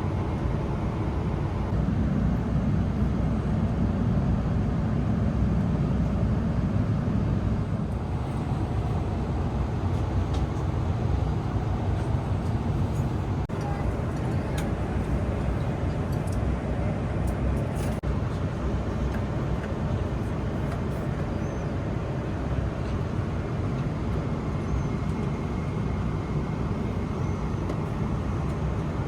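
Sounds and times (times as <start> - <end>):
airliner cabin roar: 0.0 - 29.0.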